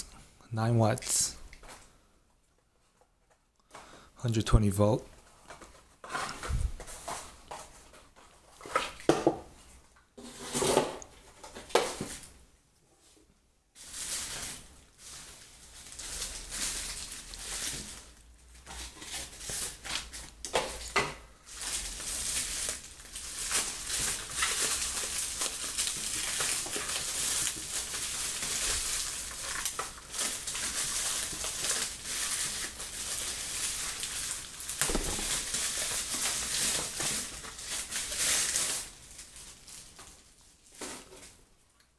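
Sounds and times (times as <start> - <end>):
packaging crinkling and rustling: 5.1 - 12.4, 13.8 - 41.9.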